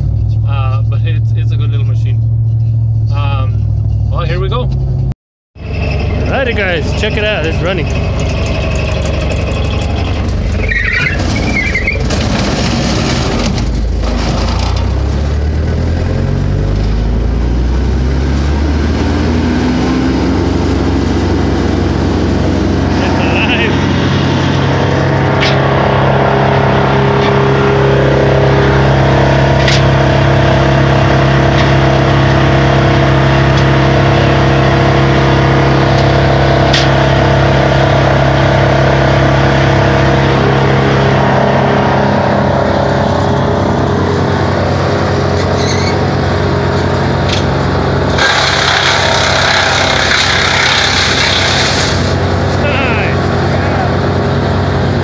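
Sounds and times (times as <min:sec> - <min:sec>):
brush chipper engine running: 0:05.6 - 0:55.0.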